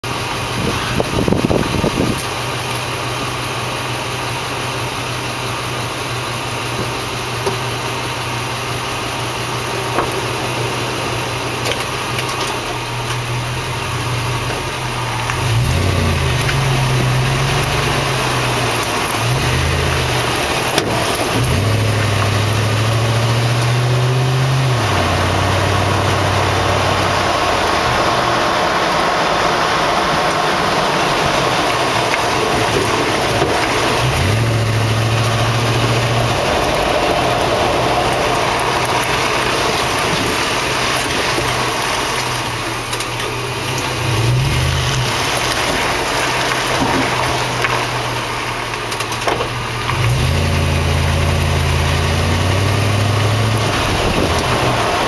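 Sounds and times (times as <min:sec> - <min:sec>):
truck engine: 0:00.0 - 0:55.0
tyre and road noise: 0:00.0 - 0:55.0.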